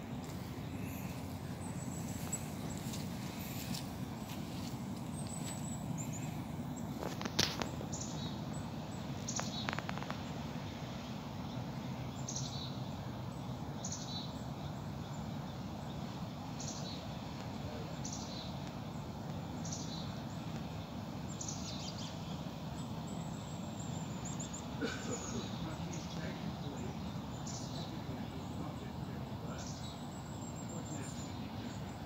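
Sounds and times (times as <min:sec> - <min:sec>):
small bird calling: 0:00.0 - 0:10.4, 0:16.5 - 0:32.0
low background rumble: 0:00.0 - 0:32.0.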